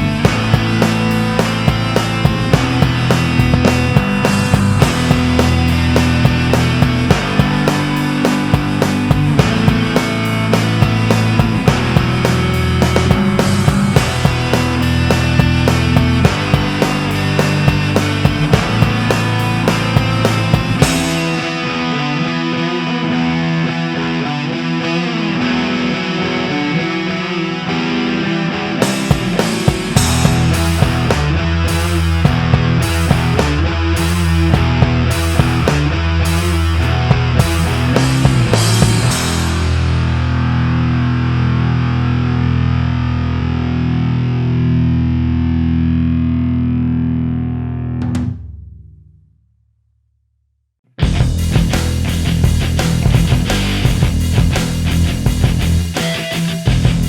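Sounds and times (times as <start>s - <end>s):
rock guitar held notes: 0.0s - 48.6s, 51.0s - 57.0s.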